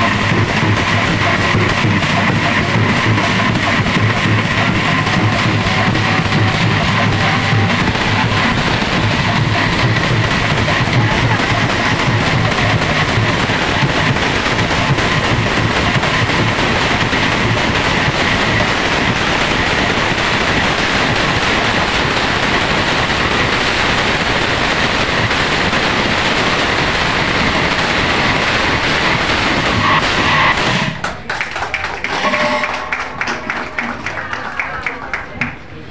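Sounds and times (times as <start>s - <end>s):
brass hand cymbals clashing: 0.0s - 31.0s, 32.1s - 33.9s.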